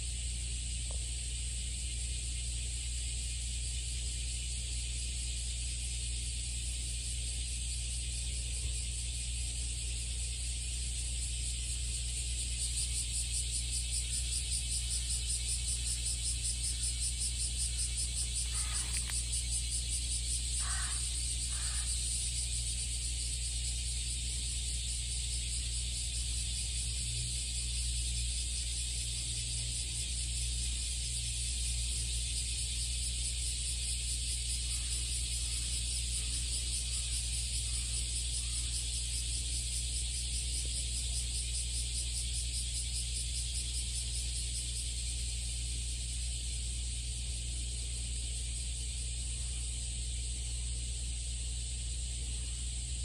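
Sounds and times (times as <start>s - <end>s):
cicadas singing: 0.0s - 53.0s
constant low hum: 0.0s - 53.0s.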